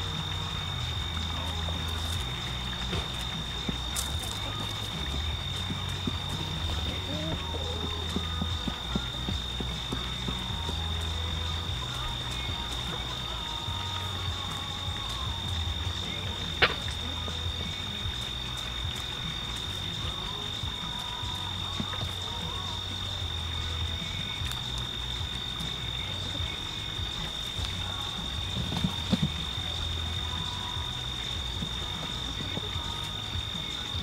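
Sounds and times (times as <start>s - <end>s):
high-pitched insect drone: 0.0s - 34.0s
low hum: 0.0s - 34.0s.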